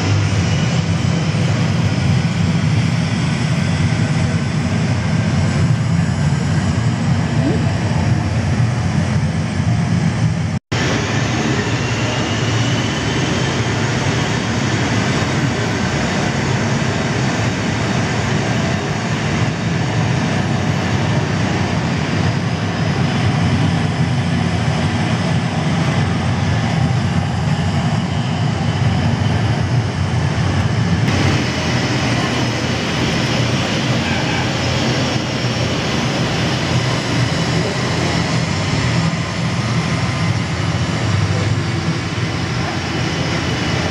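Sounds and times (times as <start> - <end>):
jet engine roar over loudspeakers: 0.0 - 43.9.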